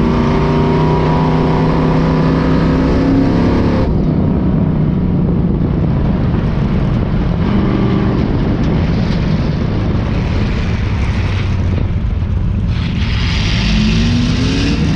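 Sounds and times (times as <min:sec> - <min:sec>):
race car engines revving: 0:00.0 - 0:14.9.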